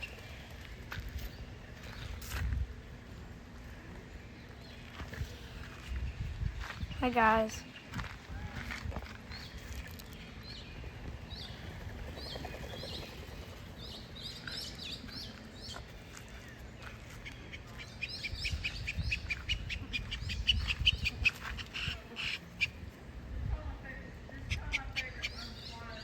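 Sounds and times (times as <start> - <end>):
birds chirping: 0.0 - 23.1, 23.9 - 26.0.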